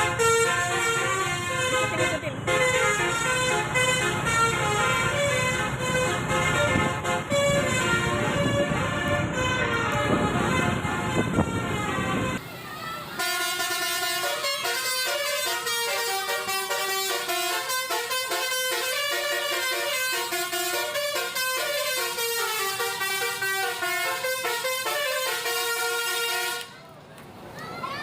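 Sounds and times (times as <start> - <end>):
bus musical horn tune: 0.0 - 12.5, 13.1 - 26.8.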